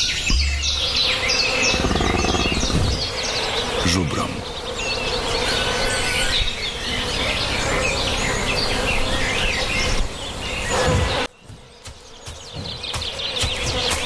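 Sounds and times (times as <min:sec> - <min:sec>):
birds chirping and whistling: 0:00.0 - 0:14.0
insects buzzing: 0:00.0 - 0:14.0.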